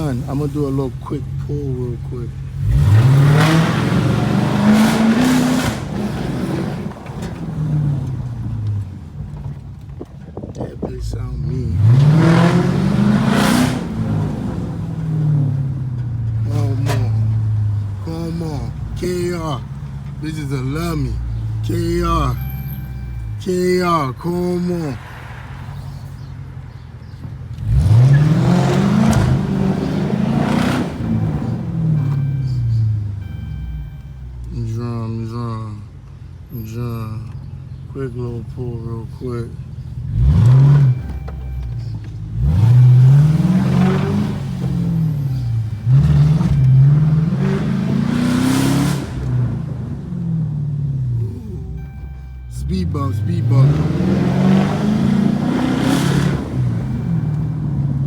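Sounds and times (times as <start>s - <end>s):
car engine full-throttle pull: 0.0s - 58.0s.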